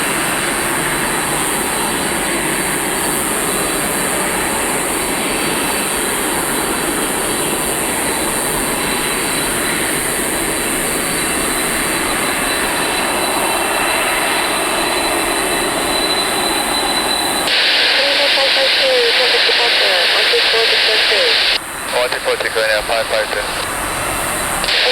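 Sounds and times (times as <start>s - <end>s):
jet engines running: 0.0s - 24.9s
thin steady engine whine: 0.0s - 24.9s.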